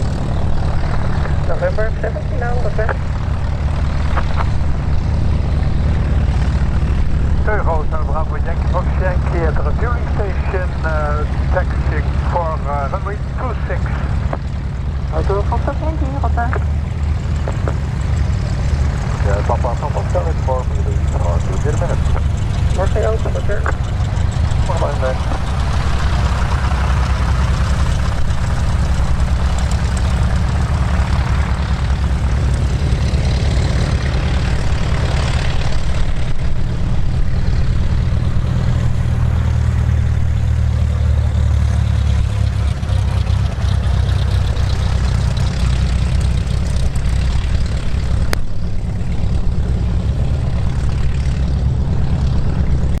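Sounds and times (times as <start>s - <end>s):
propeller aircraft engine running: 0.0s - 53.0s.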